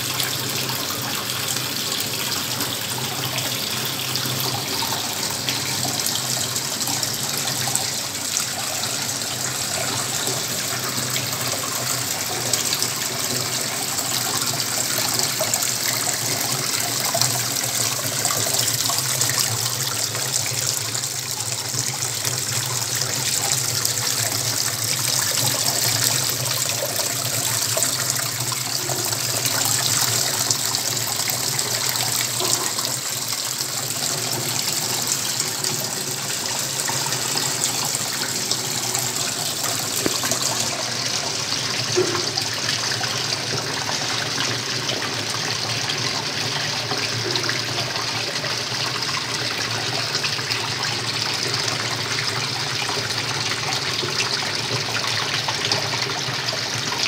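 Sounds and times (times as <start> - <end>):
fountain water splashing into pool: 0.0 - 57.0.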